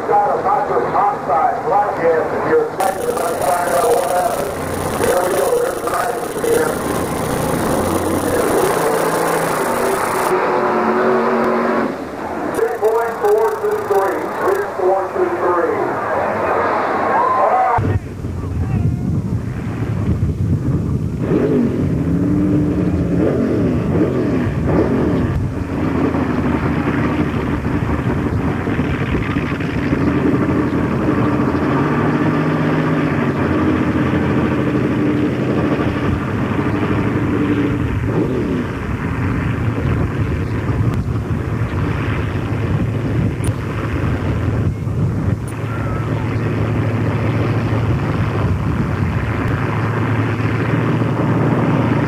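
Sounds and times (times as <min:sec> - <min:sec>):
buggy engine revving: 0:02.8 - 0:15.1, 0:21.1 - 0:52.0.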